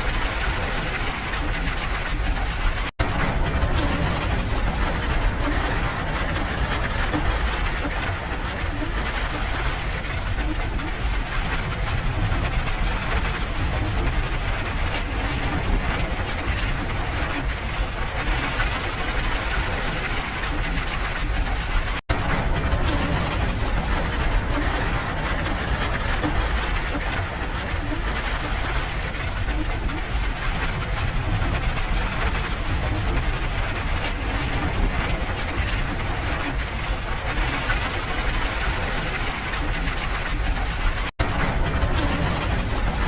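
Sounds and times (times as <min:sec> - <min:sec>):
deep low rumble: 0:00.0 - 0:17.6, 0:20.7 - 0:39.8, 0:40.4 - 0:43.0
steady rain: 0:00.0 - 0:43.0.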